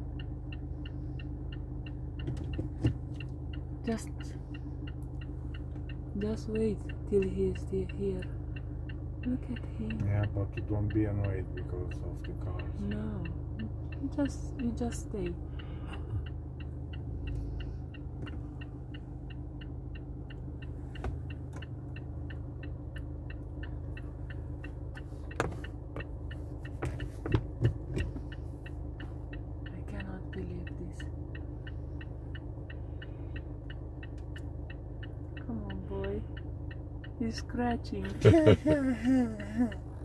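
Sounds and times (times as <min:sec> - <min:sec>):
car engine idling: 0:00.0 - 0:40.0
indicator relay ticking: 0:00.0 - 0:40.0.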